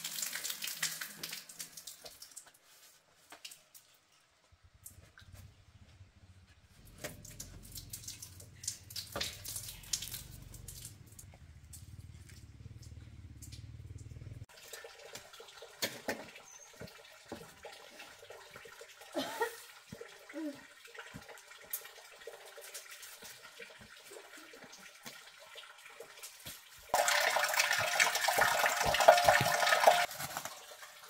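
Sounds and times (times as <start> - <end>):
water splashing and trickling: 0.0 - 5.6, 6.6 - 31.0.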